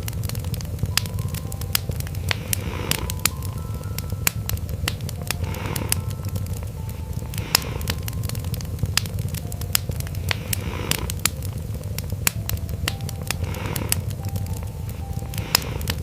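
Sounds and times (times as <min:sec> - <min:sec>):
cat purring: 0:00.0 - 0:16.0
wood fire crackling and popping: 0:00.0 - 0:16.0.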